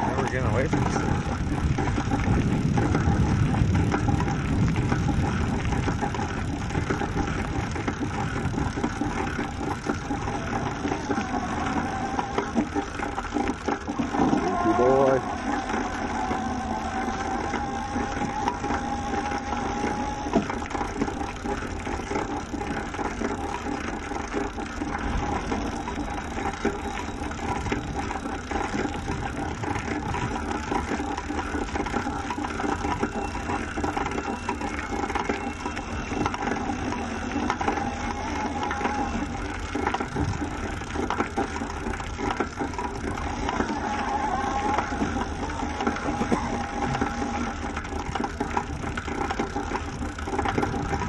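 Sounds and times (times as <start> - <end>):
cart rattling over rough ground: 0.0 - 51.0.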